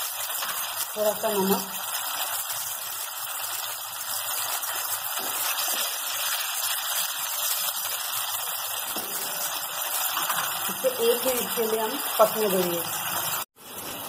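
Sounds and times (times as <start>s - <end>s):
sauce sizzling in hot oil: 0.0s - 14.0s.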